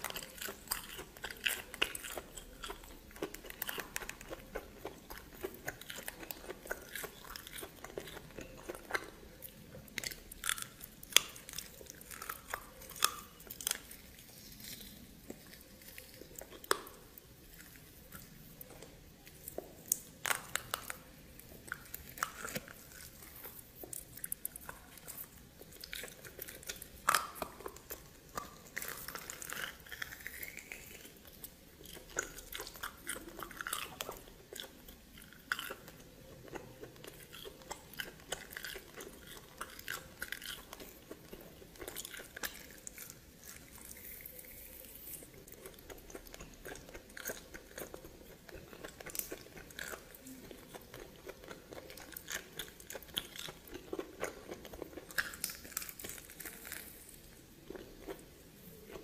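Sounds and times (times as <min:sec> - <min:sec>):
person chewing with crisp crunches: 0:00.0 - 0:59.0.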